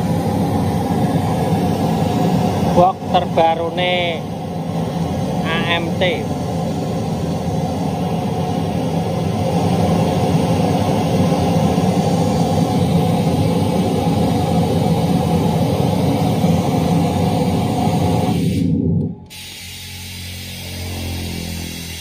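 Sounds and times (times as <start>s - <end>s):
bass-heavy test noise: 0.0s - 15.4s, 18.2s - 22.0s.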